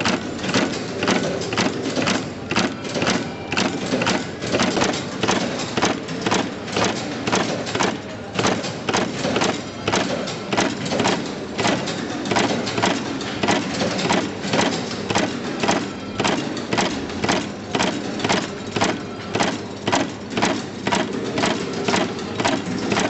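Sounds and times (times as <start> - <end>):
crimping press clacking: 0.0 - 23.0.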